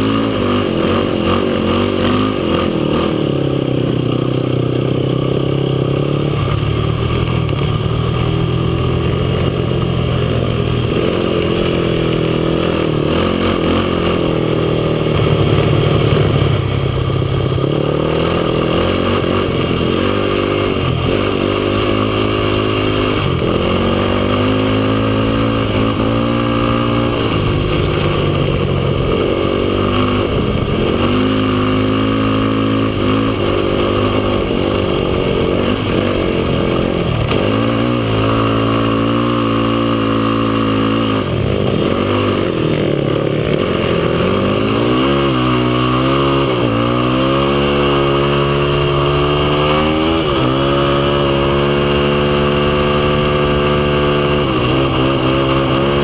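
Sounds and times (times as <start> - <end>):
quad engine revving: 0.0 - 56.0
steady rushing noise: 6.0 - 56.0.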